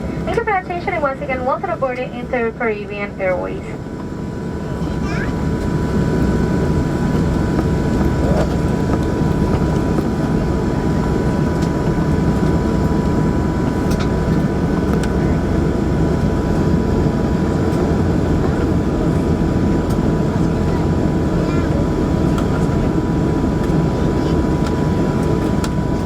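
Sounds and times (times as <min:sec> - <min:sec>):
high engine whine: 0:00.0 - 0:26.0
turboprop engines droning: 0:00.0 - 0:26.0.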